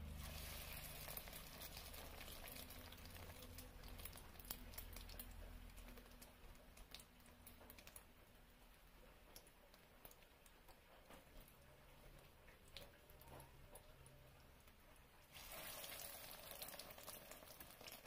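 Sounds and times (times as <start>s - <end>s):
oil sizzling and popping: 0.0s - 18.0s.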